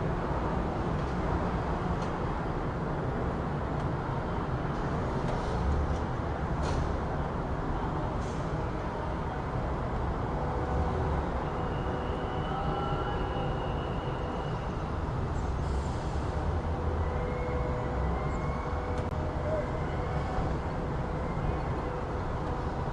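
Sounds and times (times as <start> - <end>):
low rumble of traffic: 0.0 - 22.9.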